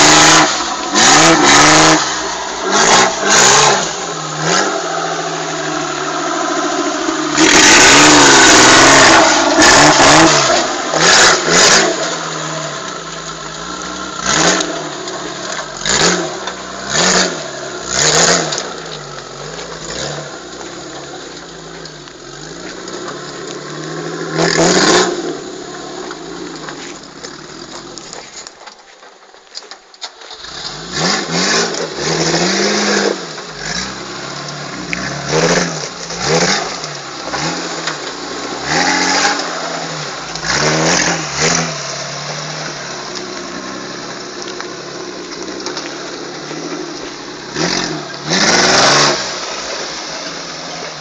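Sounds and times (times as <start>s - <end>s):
off-road vehicle engine revving: 0.0s - 28.4s, 30.2s - 51.0s.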